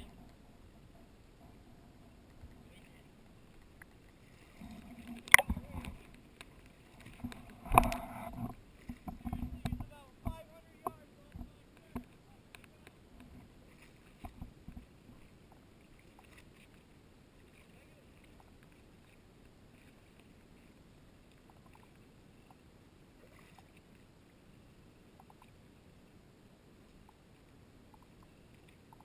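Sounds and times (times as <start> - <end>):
muffled water movement: 0.0 - 29.0.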